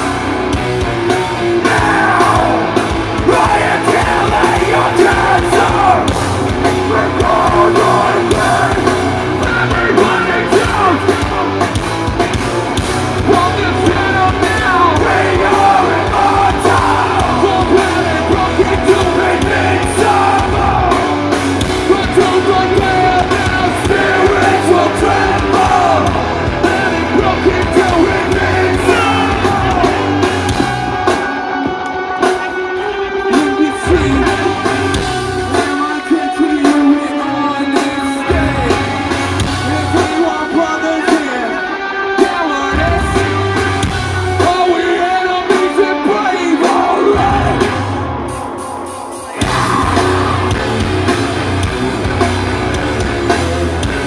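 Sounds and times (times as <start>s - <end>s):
electric guitar: 0.0s - 54.0s
metal band playing live: 0.0s - 54.0s.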